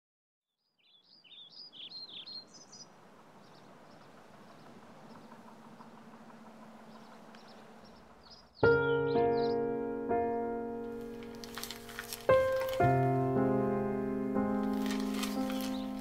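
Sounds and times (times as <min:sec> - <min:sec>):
birds chirping: 0:00.5 - 0:16.0.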